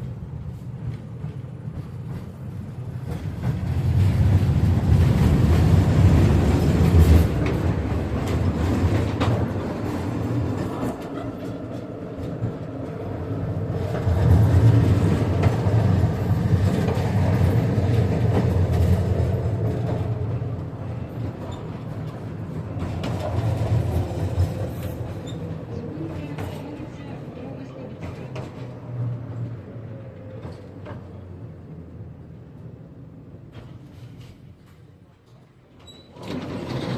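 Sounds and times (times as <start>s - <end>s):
tram wheels rumbling: 0.0s - 36.9s.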